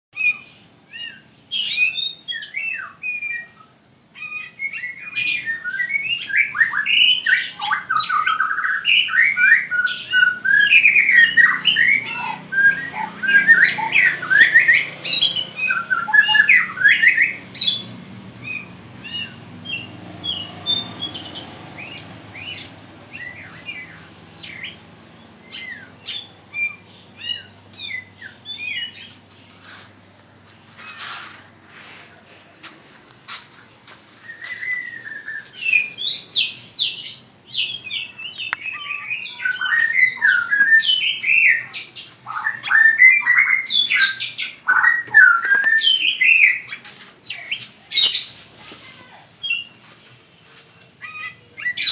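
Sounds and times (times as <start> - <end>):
pet bird calling: 0.2 - 24.8, 25.4 - 29.8, 34.3 - 49.8, 50.9 - 51.9.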